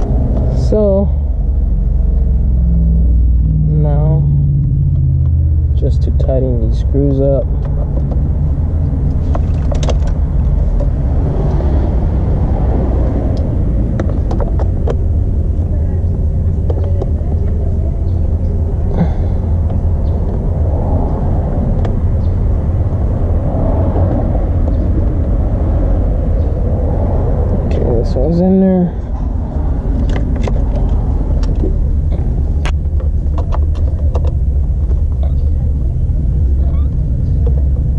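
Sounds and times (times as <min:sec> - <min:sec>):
low rumble: 0:00.0 - 0:37.9.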